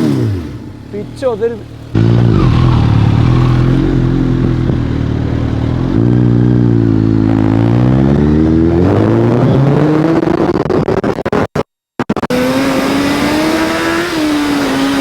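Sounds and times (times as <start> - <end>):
motorcycle engine revving: 0.0 - 11.2, 12.2 - 15.0.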